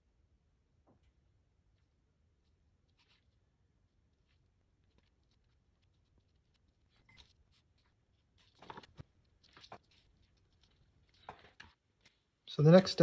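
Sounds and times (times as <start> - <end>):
paintbrush dabbing paint: 1.0 - 12.7.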